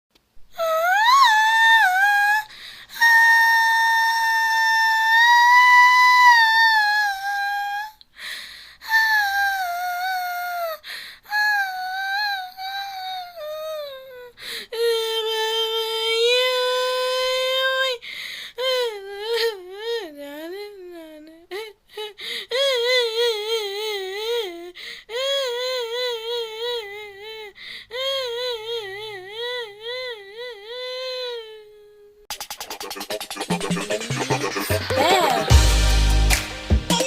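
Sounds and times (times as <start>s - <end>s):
little girl crying: 0.5s - 8.0s, 8.8s - 18.0s, 18.6s - 32.2s, 34.6s - 35.6s.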